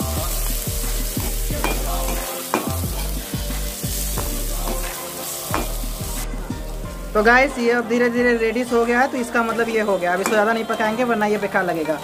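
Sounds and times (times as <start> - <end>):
vegetables sizzling in hot oil: 0.0 - 12.0
metal ladle scraping pan: 0.4 - 7.3, 8.6 - 12.0.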